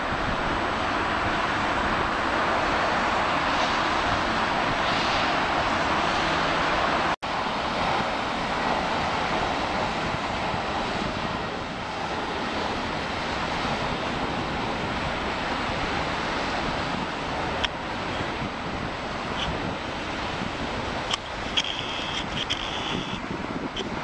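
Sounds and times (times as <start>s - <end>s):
distant jet engines roaring: 0.0s - 24.0s.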